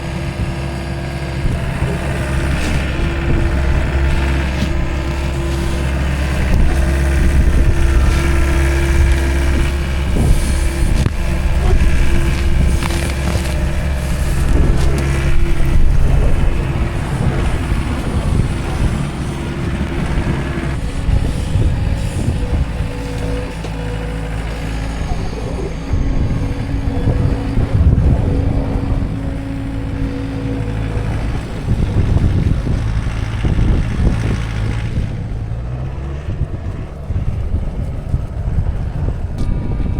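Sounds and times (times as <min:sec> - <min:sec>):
skid loader engine running: 0:00.0 - 0:39.9.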